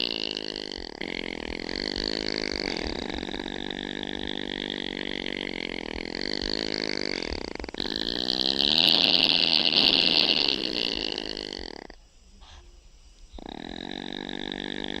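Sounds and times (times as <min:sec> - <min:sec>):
opossum snoring: 0:00.0 - 0:12.6, 0:13.3 - 0:15.0.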